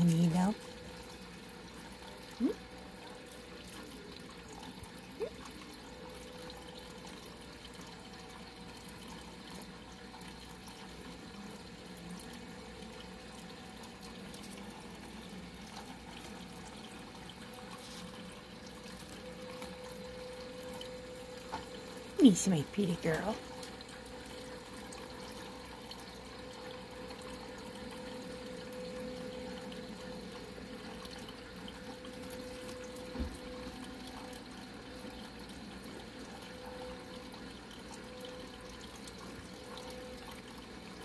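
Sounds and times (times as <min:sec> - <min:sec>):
faint hum with hiss: 0:00.0 - 0:41.0.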